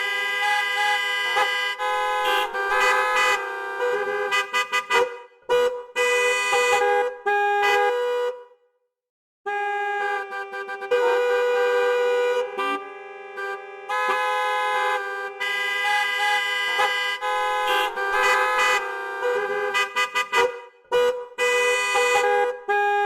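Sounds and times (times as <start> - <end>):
vehicle horns honking: 0.0 - 8.6, 9.5 - 23.0.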